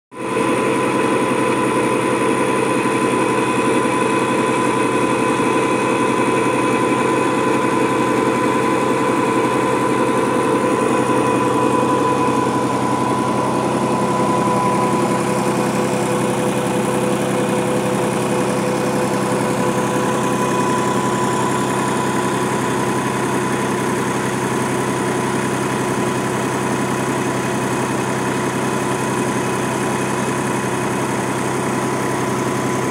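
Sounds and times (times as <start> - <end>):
high alternator whine: 0.1 - 32.9
tractor engine running: 0.2 - 32.9.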